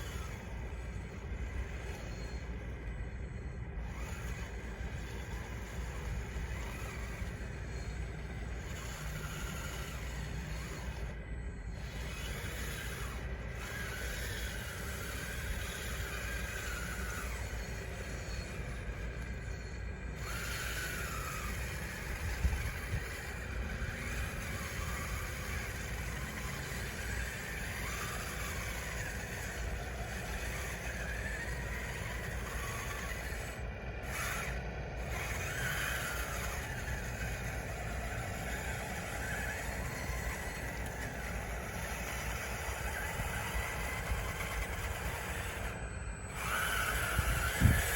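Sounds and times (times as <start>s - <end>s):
electric motors whining: 0.0s - 47.9s.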